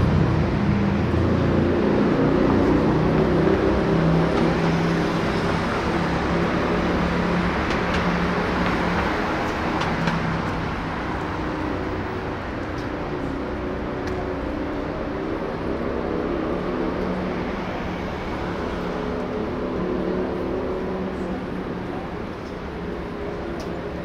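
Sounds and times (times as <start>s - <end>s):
city street traffic: 0.0s - 24.0s.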